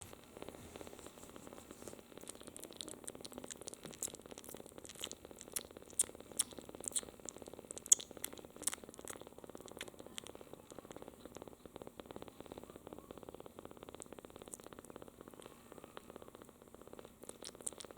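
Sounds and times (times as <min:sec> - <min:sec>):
kitten licking and sucking: 0:00.0 - 0:17.9
kitten purring: 0:00.0 - 0:17.9.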